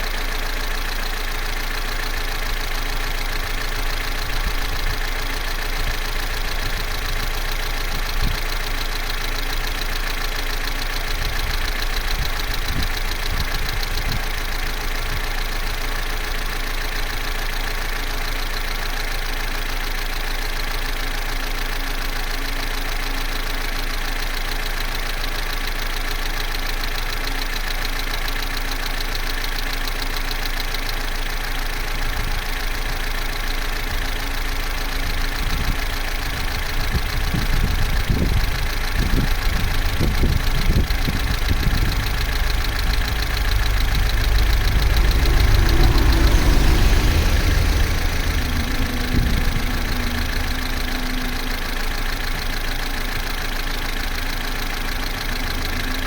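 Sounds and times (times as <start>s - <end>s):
car engine idling: 0.0s - 56.0s
fast even engine ticking: 0.0s - 56.0s.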